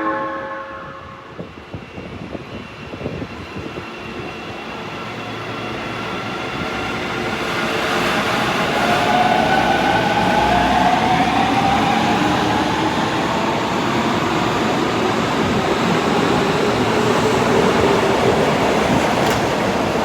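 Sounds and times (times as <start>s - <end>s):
train wheels rumbling on rail: 0.8s - 20.0s.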